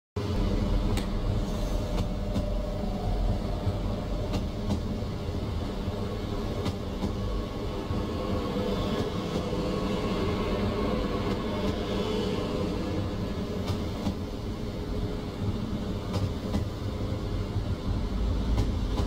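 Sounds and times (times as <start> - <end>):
train rolling rumble: 0.2 - 19.0.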